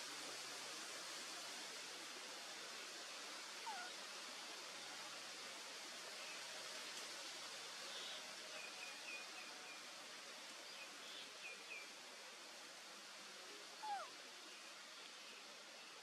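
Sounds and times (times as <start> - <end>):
soft forest hiss: 0.0 - 16.0.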